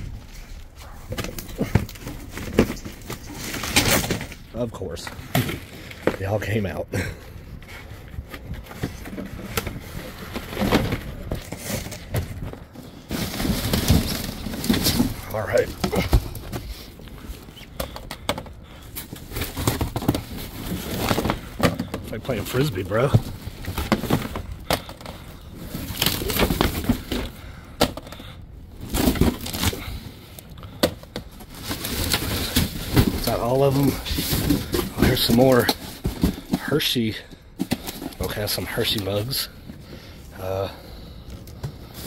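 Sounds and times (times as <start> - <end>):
cardboard rustling: 0.0 - 6.4, 7.4 - 42.0.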